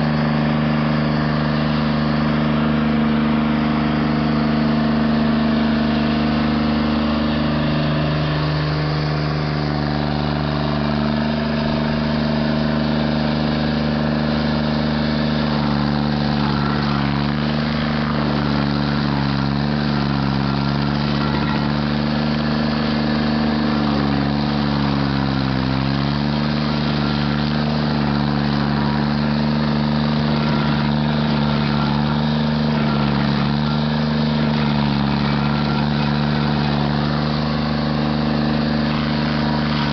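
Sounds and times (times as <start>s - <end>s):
stump grinder engine running: 0.0s - 39.9s.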